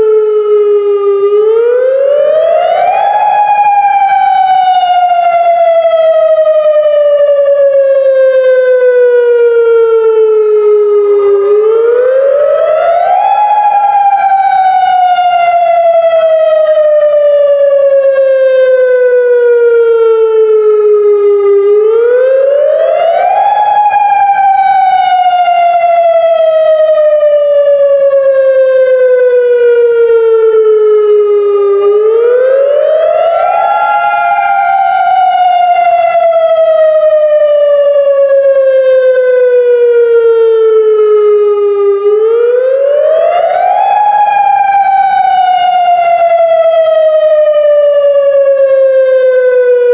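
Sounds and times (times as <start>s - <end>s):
electronic siren wavering tone: 0.0s - 49.9s.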